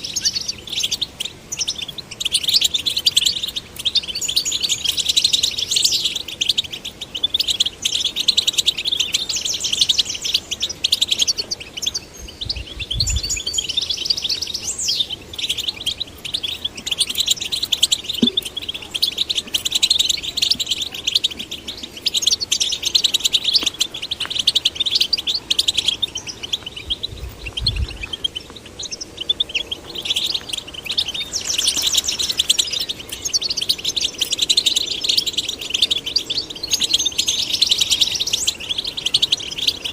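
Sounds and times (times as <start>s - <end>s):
finches singing: 0.0s - 39.9s.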